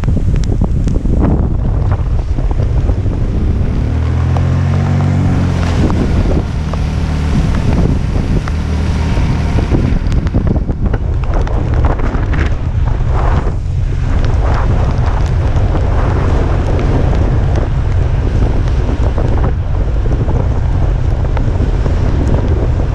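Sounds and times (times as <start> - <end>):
wind buffeting microphone: 0.0 - 22.9
vehicle engine passing: 1.7 - 22.9.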